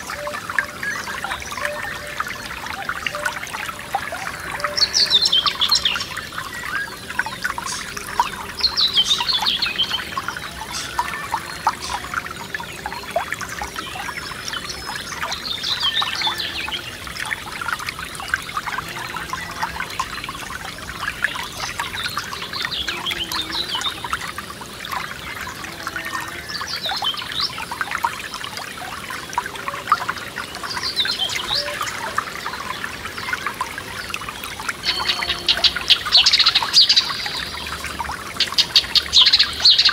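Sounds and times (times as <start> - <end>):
songbird singing: 0.0 - 39.9
stream trickling: 0.0 - 39.9.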